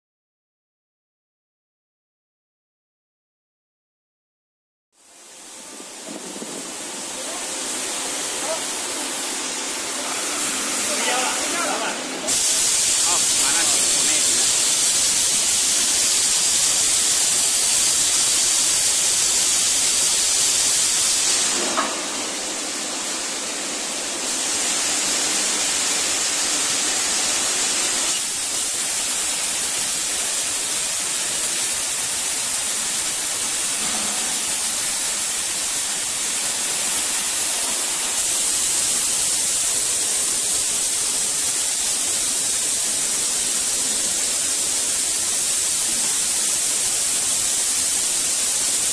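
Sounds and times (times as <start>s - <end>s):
die casting machine hissing: 5.0s - 48.9s.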